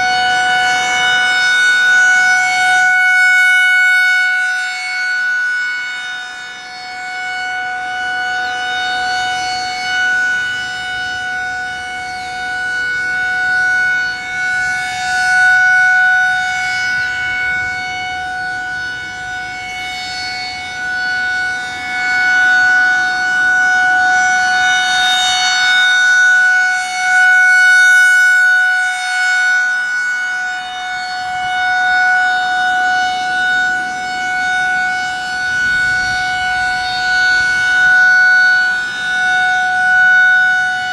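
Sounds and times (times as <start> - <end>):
rotating warning siren tone: 0.0 - 40.9.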